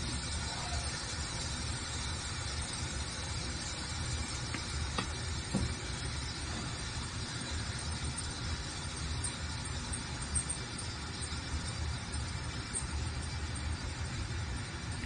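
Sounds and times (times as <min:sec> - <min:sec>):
workshop hum and hiss: 0:00.0 - 0:15.0.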